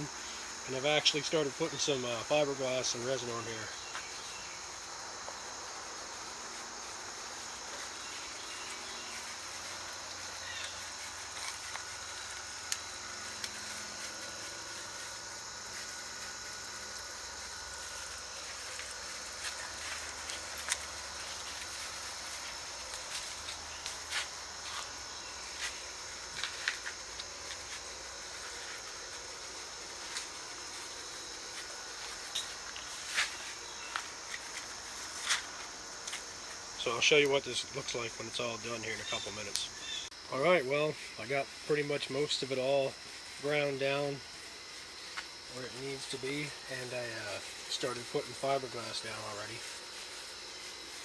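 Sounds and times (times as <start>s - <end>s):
crickets chirping: 0.0s - 51.0s.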